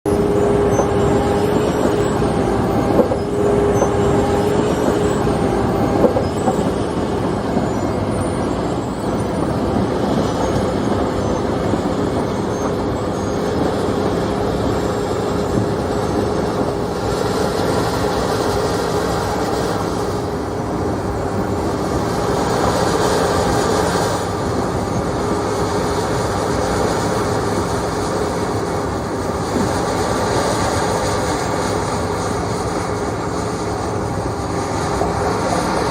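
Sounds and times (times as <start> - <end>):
machine whine: 0.1 - 35.9
milling machine heavy rumble: 0.1 - 35.9.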